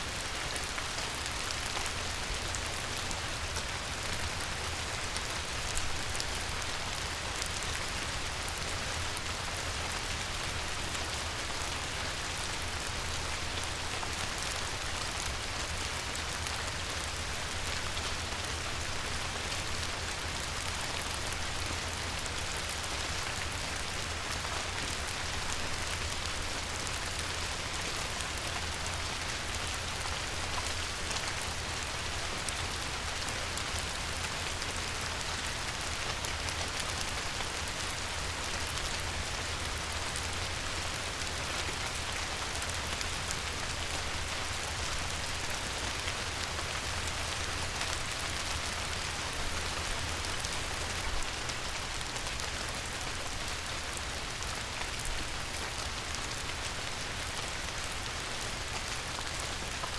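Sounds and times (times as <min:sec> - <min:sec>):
light rain on a river: 0:00.0 - 0:59.9.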